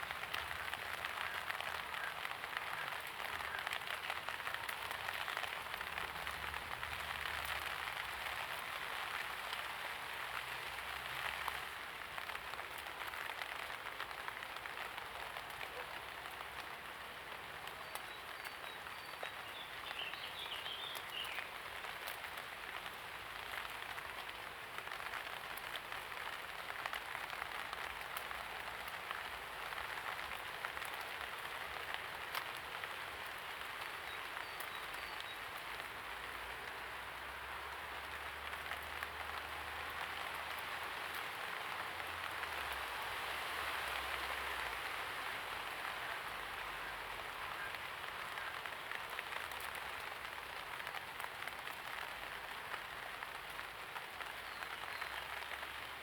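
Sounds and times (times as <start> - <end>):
light rain falling: 0.0 - 56.0
raindrops pattering: 0.0 - 56.0.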